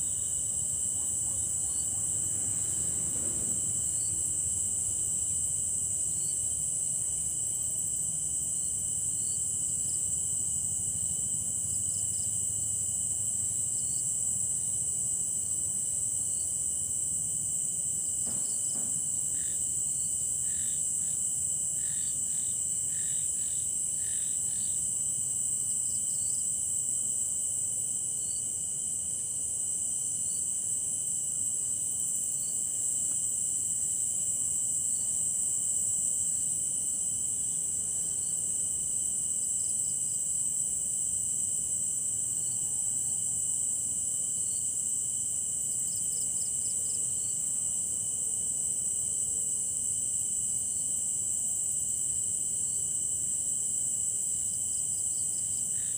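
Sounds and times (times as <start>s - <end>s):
crickets trilling: 0.0s - 55.9s
insects chirping: 0.0s - 55.9s
low steady insect tone: 0.0s - 55.9s.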